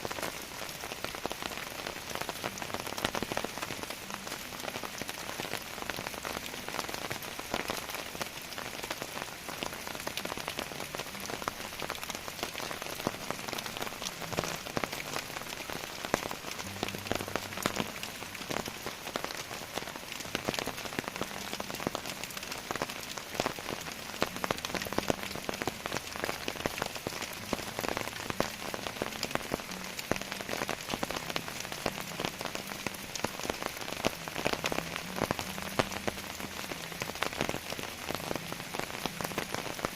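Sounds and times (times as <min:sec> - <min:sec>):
heavy rain: 0:00.0 - 0:39.9
raindrops tapping: 0:00.0 - 0:39.9.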